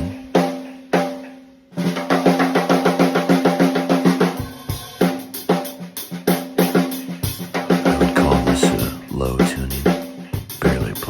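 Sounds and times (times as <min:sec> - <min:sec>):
low-tuned snare drum strokes: 0:00.0 - 0:11.0.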